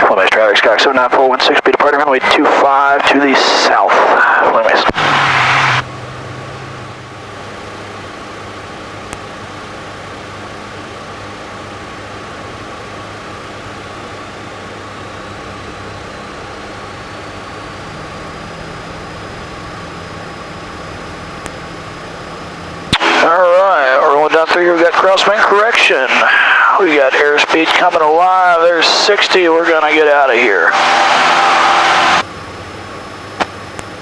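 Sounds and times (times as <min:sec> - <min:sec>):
propeller plane engine droning: 0:00.0 - 0:34.0
faint rising whine: 0:03.7 - 0:34.0.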